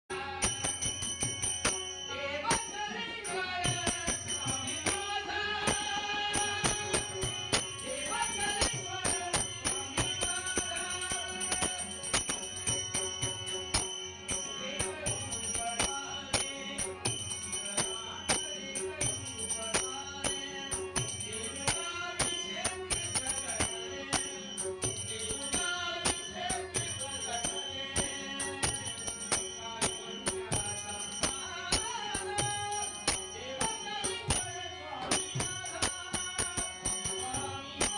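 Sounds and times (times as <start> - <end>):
jingling metal percussion: 0.1 - 37.9
percussion beat: 0.1 - 37.9.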